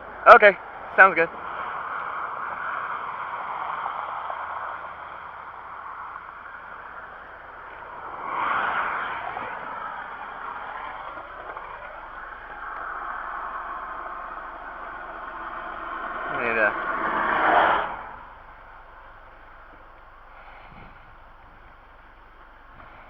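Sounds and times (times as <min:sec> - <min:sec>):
highway traffic: 0:00.0 - 0:23.0
vehicle passing close: 0:00.0 - 0:23.0.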